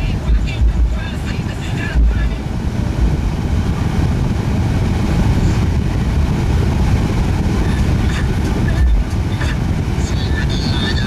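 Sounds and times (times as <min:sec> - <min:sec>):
heavy subwoofer bass rumble: 0:00.0 - 0:11.0
movie soundtrack through car speakers: 0:00.0 - 0:11.0.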